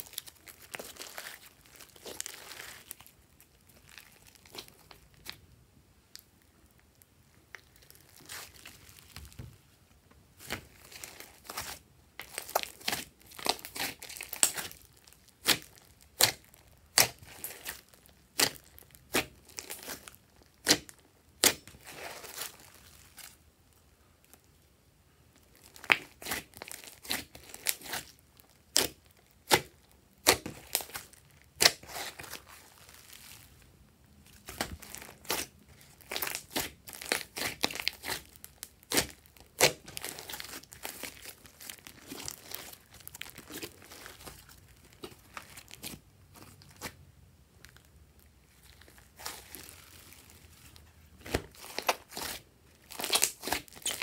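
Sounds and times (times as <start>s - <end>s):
slime popping and crackling: 0.0s - 5.4s, 10.4s - 23.4s, 25.5s - 33.6s, 34.3s - 47.0s, 47.6s - 54.0s.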